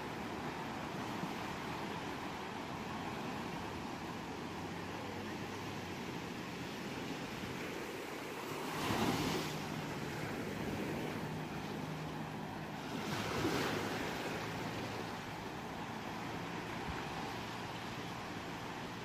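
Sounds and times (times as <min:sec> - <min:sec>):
surf hiss: 0:00.0 - 0:19.0
waves breaking on shore: 0:00.0 - 0:19.0.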